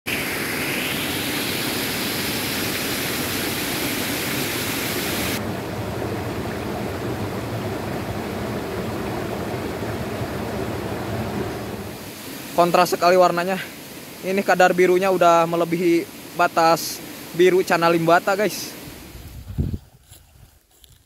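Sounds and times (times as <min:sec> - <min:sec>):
stream water running: 0:00.1 - 0:20.9.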